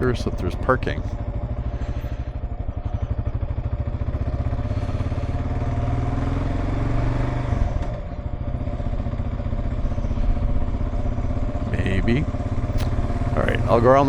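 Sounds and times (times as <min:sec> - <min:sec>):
motorcycle engine pulsing: 0:00.0 - 0:14.0.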